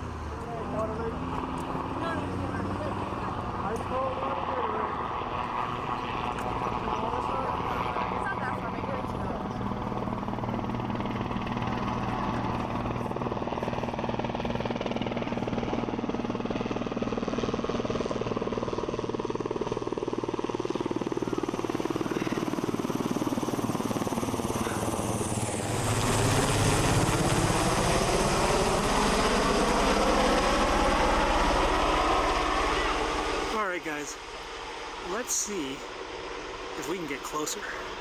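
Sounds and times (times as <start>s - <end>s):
helicopter rotor chop: 0.0s - 38.0s.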